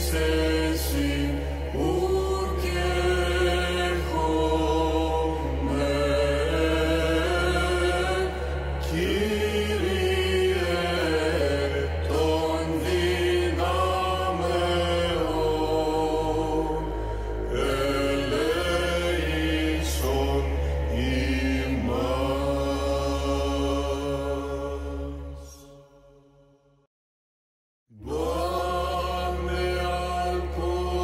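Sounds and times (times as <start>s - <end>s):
choir chanting melody: 0.0s - 26.0s, 27.9s - 31.0s
low held vocal drone: 0.0s - 26.0s, 27.9s - 31.0s.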